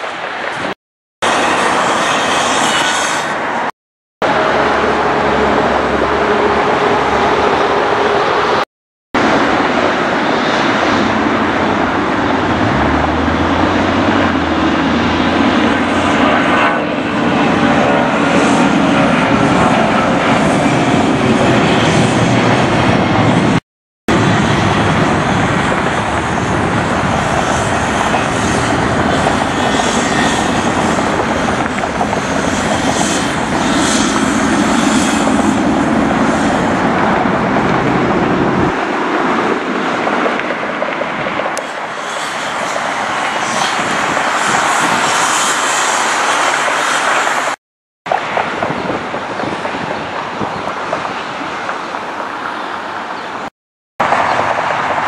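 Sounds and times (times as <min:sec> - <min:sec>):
jet engines running loud: 0:09.2 - 0:53.2, 0:54.0 - 0:55.0.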